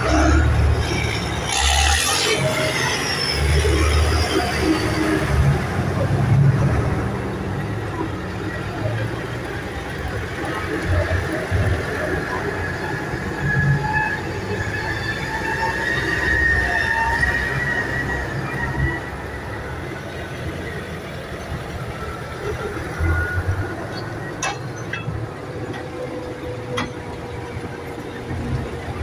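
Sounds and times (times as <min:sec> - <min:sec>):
tractors driving on gravel: 0:00.0 - 0:29.0.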